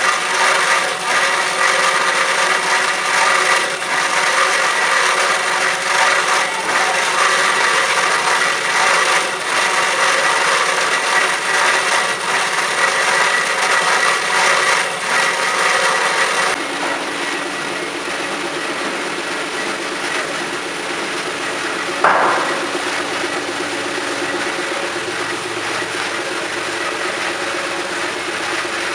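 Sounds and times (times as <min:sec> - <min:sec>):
band saw cutting metal: 0:00.0 - 0:28.9
steady machine hum: 0:00.0 - 0:28.9.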